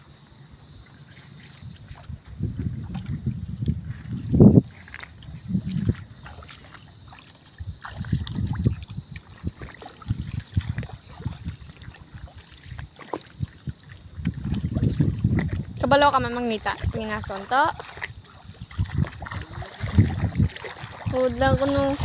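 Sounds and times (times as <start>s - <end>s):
water sloshing around feet: 0.0s - 22.0s.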